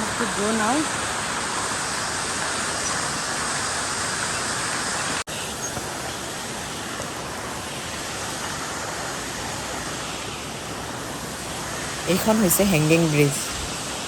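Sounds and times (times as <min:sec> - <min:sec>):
waterfall and river rushing: 0:00.0 - 0:14.0.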